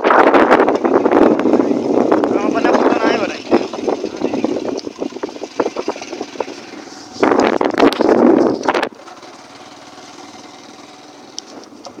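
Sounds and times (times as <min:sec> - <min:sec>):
grass rustling against microphone: 0:00.0 - 0:12.0.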